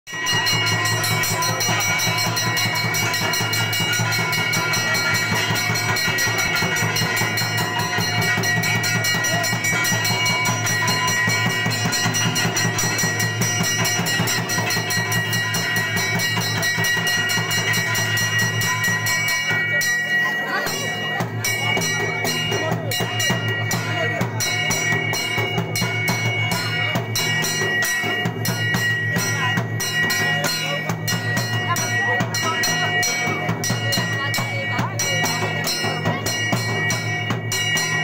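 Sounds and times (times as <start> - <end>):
barrel drums played by hand: 0.1 - 38.0
high ringing tones: 0.1 - 38.0.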